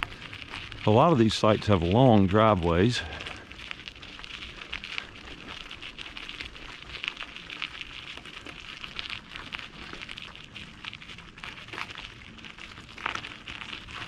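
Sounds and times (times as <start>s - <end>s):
bicycle tyres crackling: 0.0s - 14.0s.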